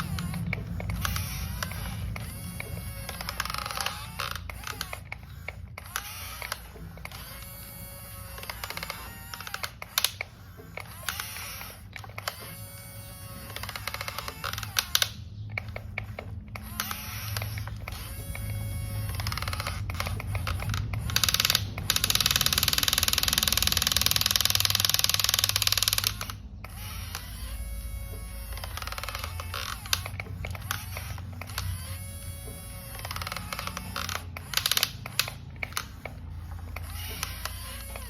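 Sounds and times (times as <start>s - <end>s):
toy motor and gears whirring: 0.0s - 38.0s.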